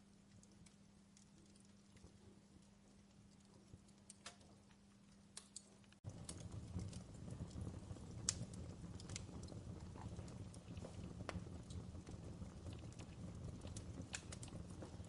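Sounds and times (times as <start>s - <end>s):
fireplace crackling: 0.0s - 15.0s
low rumble of fire: 0.0s - 15.0s.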